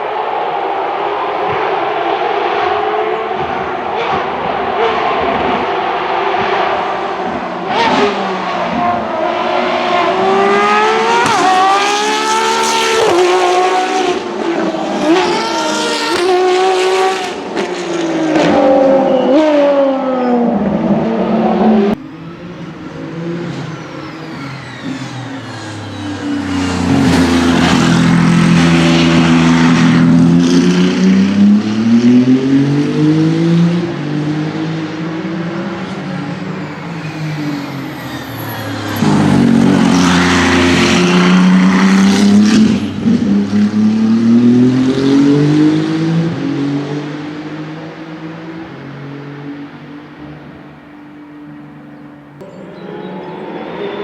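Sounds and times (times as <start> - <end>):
race car engine revving: 0.0 - 50.8
deep race car passing by: 0.4 - 50.5, 52.4 - 54.0.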